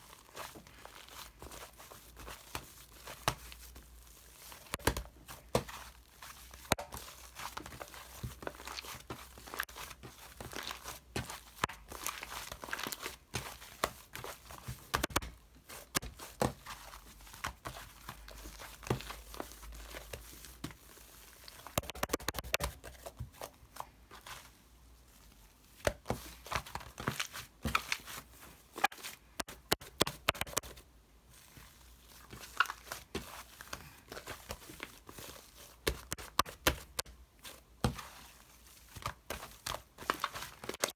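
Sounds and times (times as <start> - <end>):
crinkling rustling handling: 0.0 - 40.9.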